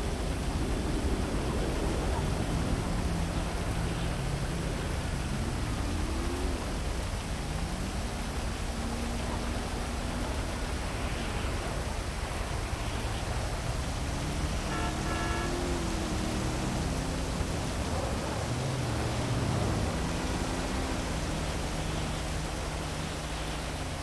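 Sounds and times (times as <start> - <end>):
heavy rain hissing: 0.0 - 24.0
vehicles passing: 0.0 - 24.0.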